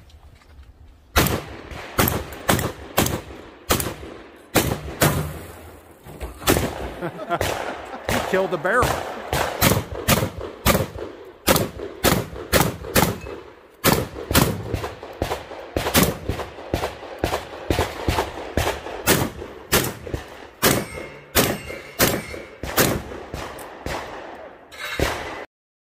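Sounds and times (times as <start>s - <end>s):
shotgun firing rapidly: 1.2s - 5.4s, 6.4s - 25.4s.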